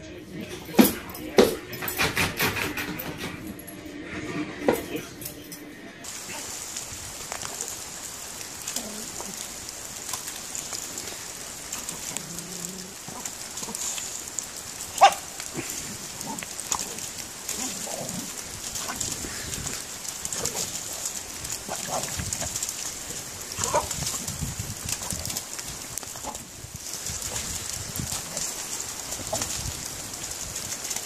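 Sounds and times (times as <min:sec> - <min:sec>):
rain hissing: 0:00.0 - 0:31.0
dog splashing in a puddle: 0:06.1 - 0:31.0.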